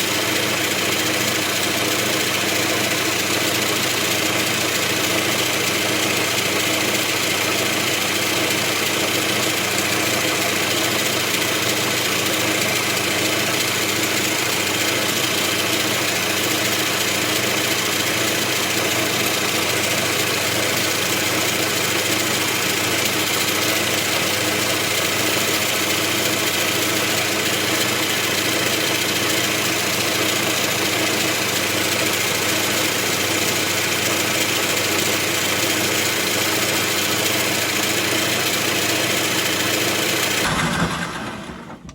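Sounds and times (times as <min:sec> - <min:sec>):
metal lathe running: 0:00.0 - 0:41.9.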